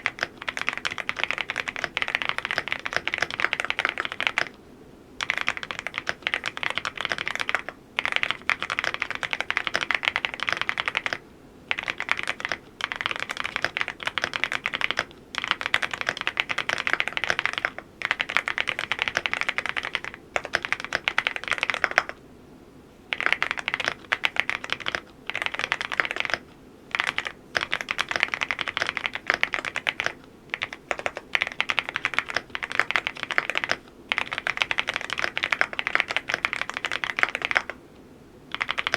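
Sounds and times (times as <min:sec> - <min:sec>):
mechanical keyboard typing: 0:00.0 - 0:04.6, 0:05.2 - 0:22.2, 0:23.1 - 0:37.8, 0:38.5 - 0:38.9.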